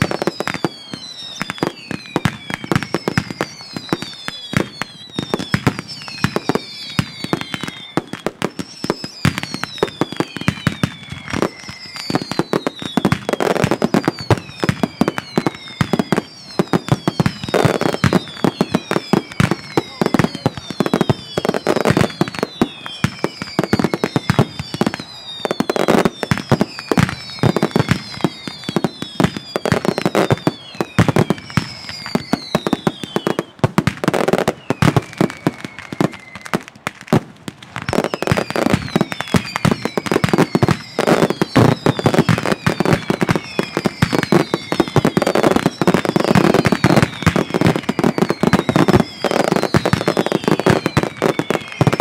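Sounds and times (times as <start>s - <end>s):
falling firework whistles: 0.0s - 52.0s.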